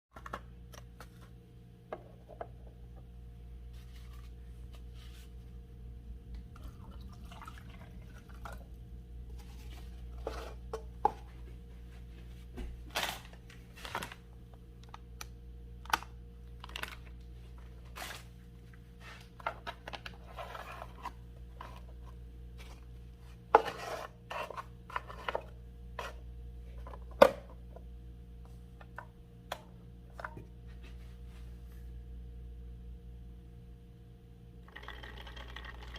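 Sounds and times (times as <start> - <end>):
steady low hum: 0.2 - 35.9.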